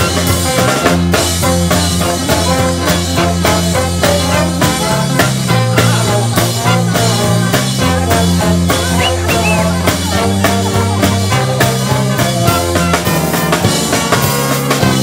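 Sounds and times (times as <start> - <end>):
brass band playing: 0.0 - 15.0
drum kit beat: 0.0 - 15.0.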